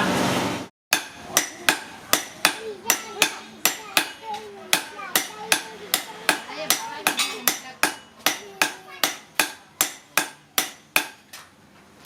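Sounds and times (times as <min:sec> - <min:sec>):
hammer striking metal: 0:00.9 - 0:11.4.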